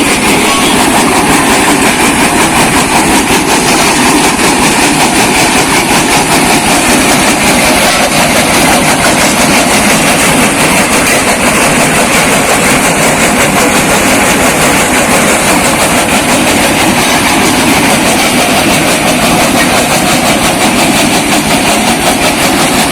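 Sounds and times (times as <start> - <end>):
brick crusher machine clattering: 0.0 - 22.9.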